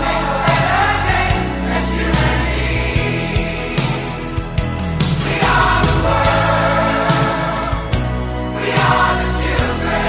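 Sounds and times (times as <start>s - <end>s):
pop ballad with choir: 0.0s - 10.0s
steady drum beat: 0.0s - 10.0s.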